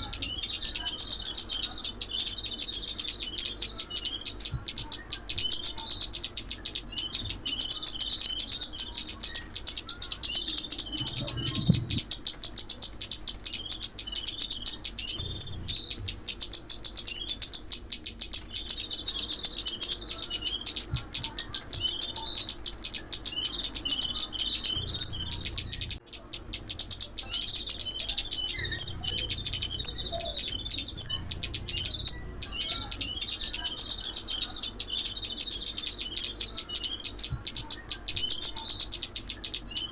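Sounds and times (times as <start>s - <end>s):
sunbird twittering chirps: 0.0s - 39.9s.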